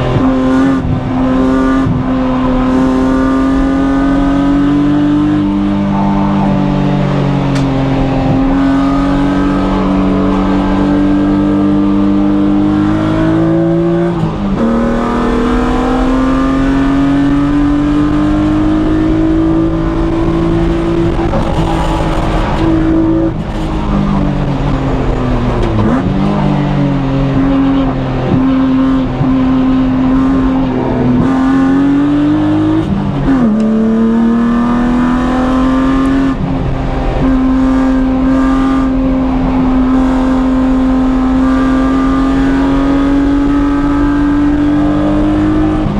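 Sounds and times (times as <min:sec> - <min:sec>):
car engine pulling hard: 0:00.0 - 0:45.9.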